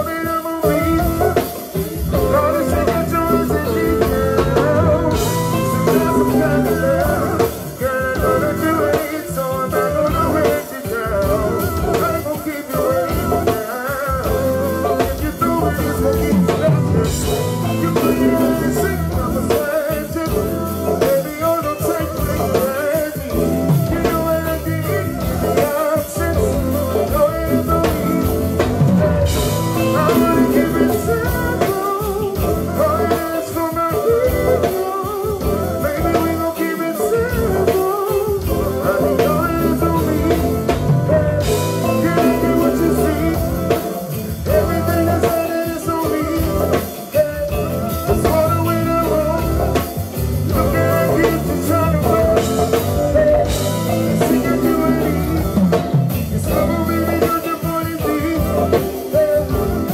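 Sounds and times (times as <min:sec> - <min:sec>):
live band with singing: 0:00.0 - 0:59.9.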